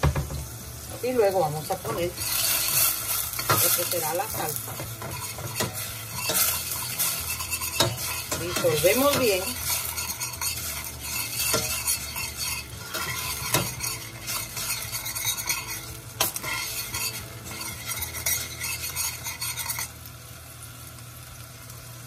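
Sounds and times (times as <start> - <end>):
hot liquid sizzling: 0.0 - 22.0
metal spoon clinking against pot: 1.8 - 19.9.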